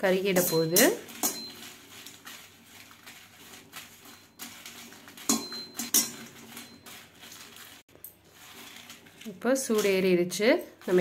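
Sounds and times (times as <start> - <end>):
metal spatula scraping a pan: 0.3 - 11.0.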